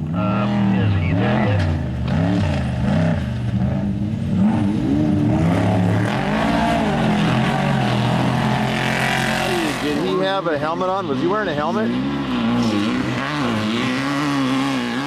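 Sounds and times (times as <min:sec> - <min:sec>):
engine revving up and down: 0:00.0 - 0:15.0.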